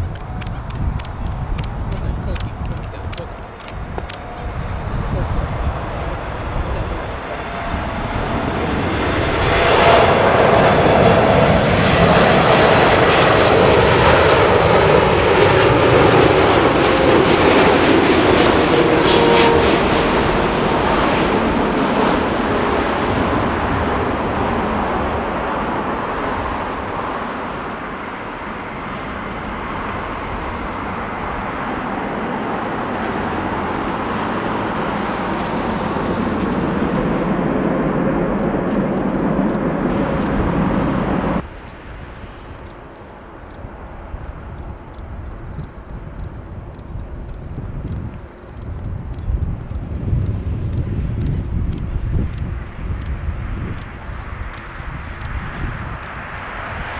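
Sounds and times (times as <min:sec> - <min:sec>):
jet roar passing by: 0:00.0 - 0:56.9
jet whine gliding down: 0:00.0 - 0:56.9.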